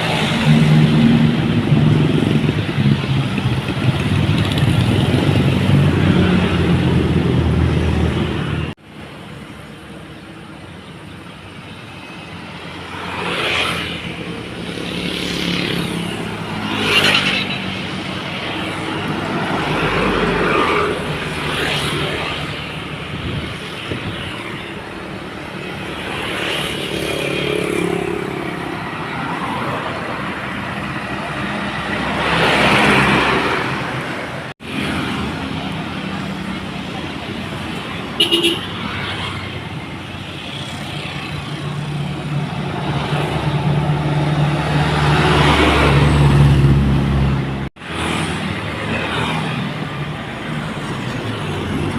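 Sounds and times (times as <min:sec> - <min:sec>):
vehicles passing on wet road: 0:00.0 - 0:10.0, 0:12.3 - 0:51.9.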